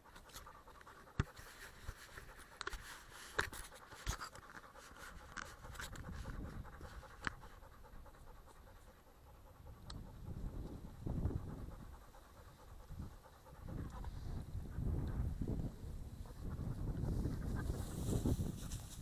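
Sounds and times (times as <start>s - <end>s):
fast panting breaths: 0.0s - 19.0s.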